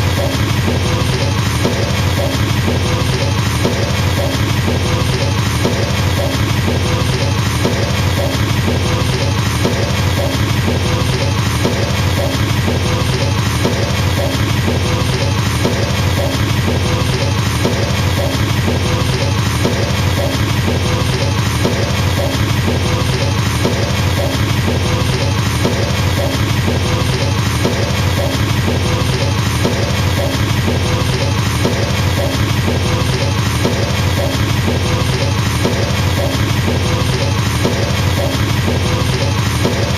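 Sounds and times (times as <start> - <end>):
fast double bass kick drum: 0.0 - 39.9.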